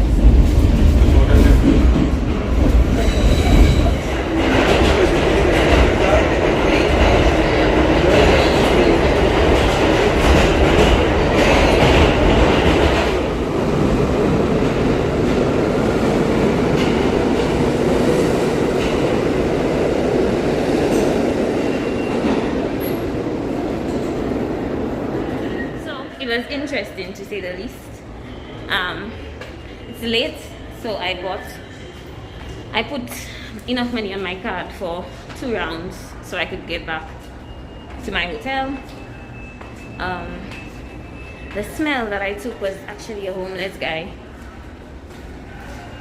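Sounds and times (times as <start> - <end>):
subway train running on tracks: 0.0 - 46.0.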